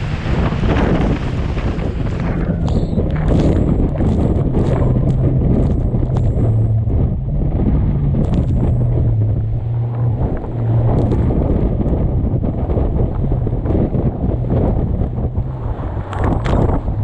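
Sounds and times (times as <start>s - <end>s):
water slapping against hull: 0.0s - 17.0s
watercraft engine drone: 0.0s - 17.0s
wind buffeting on microphone: 0.0s - 17.0s.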